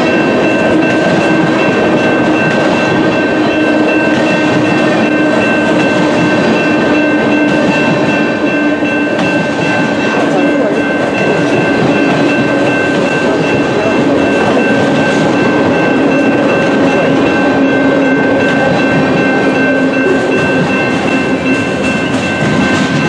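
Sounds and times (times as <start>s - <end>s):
high-pitched ringing tone: 0.0s - 23.0s
train wheels rumbling on rails: 0.0s - 23.0s.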